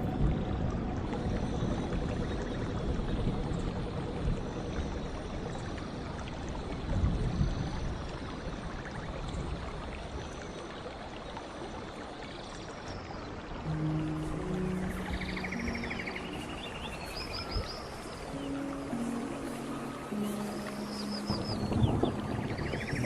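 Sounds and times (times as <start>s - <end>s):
stream water running: 0.0s - 23.0s.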